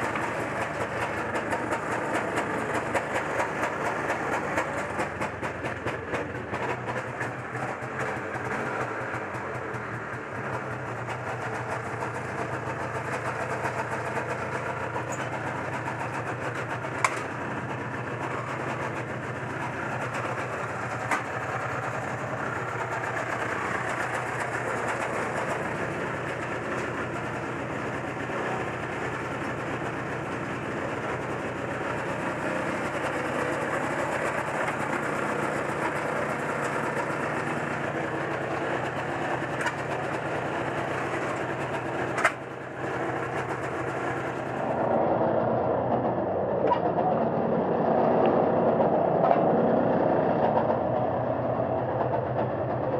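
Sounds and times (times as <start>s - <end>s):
snowmobile engine idling: 0.0s - 45.0s.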